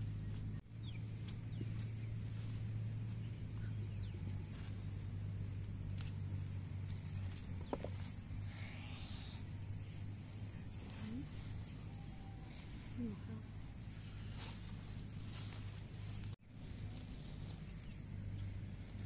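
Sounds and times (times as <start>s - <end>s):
grass rustling: 0.0s - 19.0s
low steady hum: 0.0s - 19.0s.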